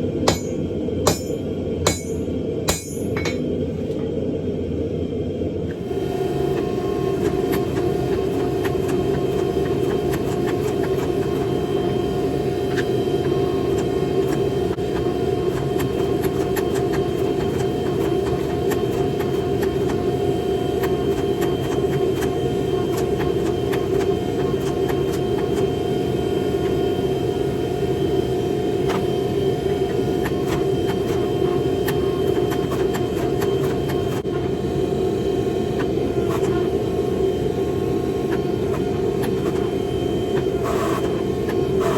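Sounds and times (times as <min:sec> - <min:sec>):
forge roaring hum: 0:00.0 - 0:41.9.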